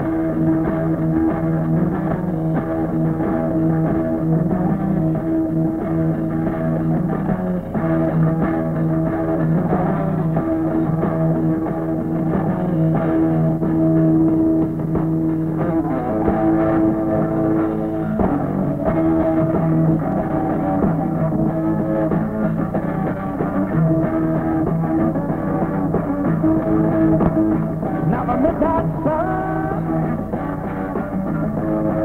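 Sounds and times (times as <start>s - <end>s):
rock band playing instrumental: 0.0s - 32.0s.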